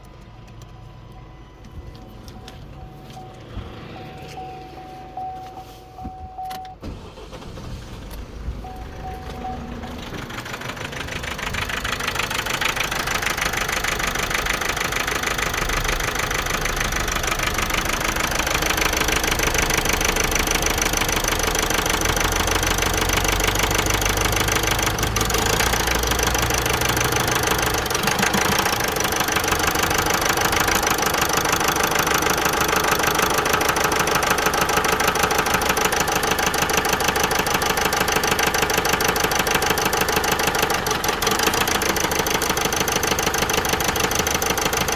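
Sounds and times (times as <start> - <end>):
diesel engine idling: 6.8 - 44.9.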